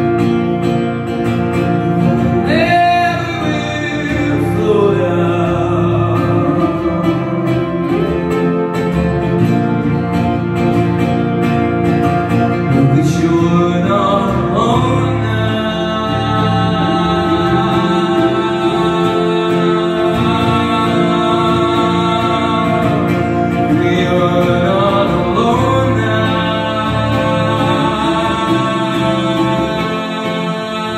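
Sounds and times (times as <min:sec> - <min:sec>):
live band playing: 0:00.0 - 0:30.9
lead vocal singing: 0:01.7 - 0:09.0, 0:12.6 - 0:30.9.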